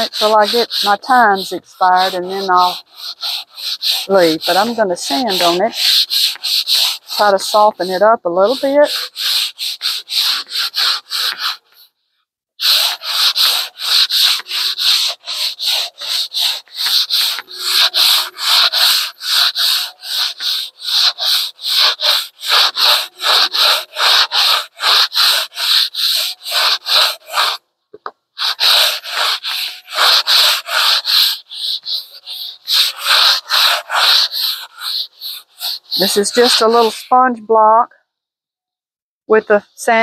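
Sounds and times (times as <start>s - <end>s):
sandpaper sanding strokes: 0.0s - 11.9s, 12.6s - 27.6s, 28.4s - 37.3s.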